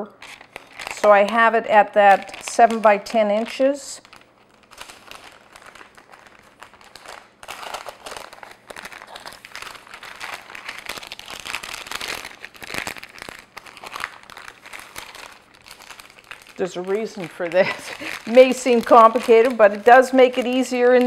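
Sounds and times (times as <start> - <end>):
paper crinkling: 0.2 - 21.0.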